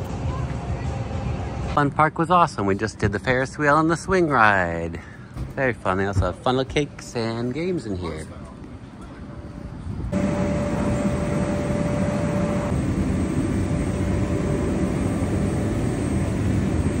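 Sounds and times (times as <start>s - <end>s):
steady machine drone: 0.0s - 5.8s, 8.8s - 17.0s
thin steady whine: 0.0s - 17.0s.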